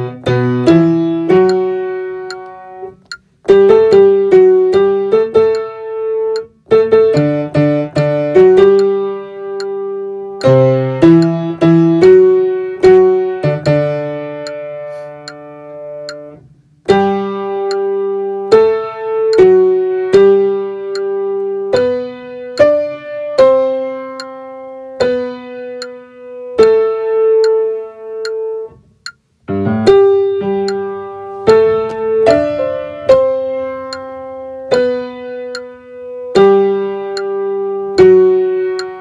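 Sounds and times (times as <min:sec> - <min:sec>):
piano playing slow chords: 0:00.0 - 0:39.0.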